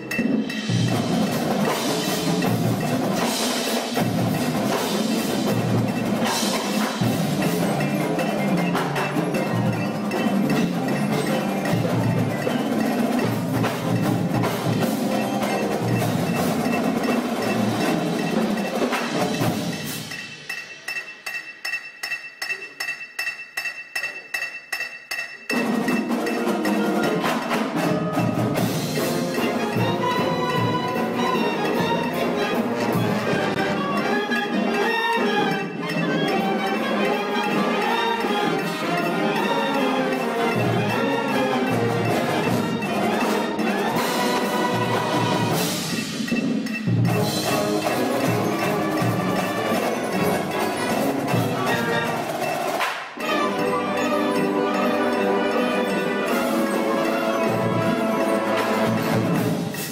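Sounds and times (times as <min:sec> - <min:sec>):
mallet percussion and bells: 0:00.0 - 0:59.9
marching band music: 0:00.0 - 0:59.9.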